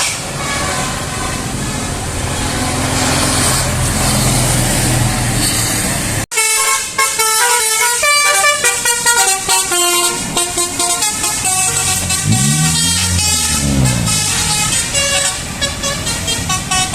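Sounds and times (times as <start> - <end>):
bus horn playing melody: 0.0 - 3.8, 6.4 - 16.9
bus engine running: 0.0 - 6.2, 6.9 - 16.9
road noise: 0.0 - 16.9.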